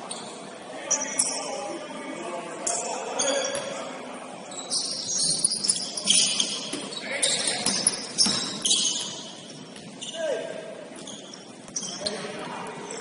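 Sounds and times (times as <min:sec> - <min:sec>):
sneakers squeaking on floor: 0:00.0 - 0:01.5, 0:02.6 - 0:13.0.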